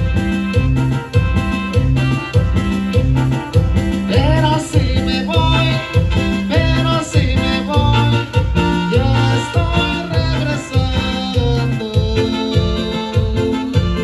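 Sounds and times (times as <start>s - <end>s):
live band playing latin dance music: 0.0s - 14.0s
pulsing bass line: 0.0s - 14.0s
trumpet melody: 0.0s - 14.0s.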